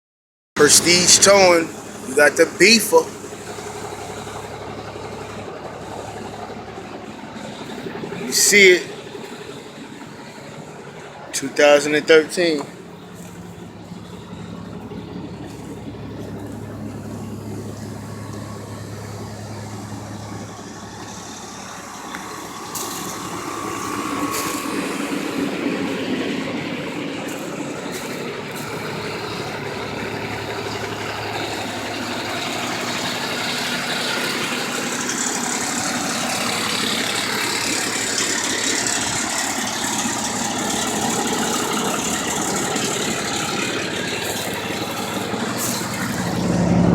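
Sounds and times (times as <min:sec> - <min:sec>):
truck driving off: 0:00.6 - 0:46.9
truck engine idling: 0:00.6 - 0:46.9.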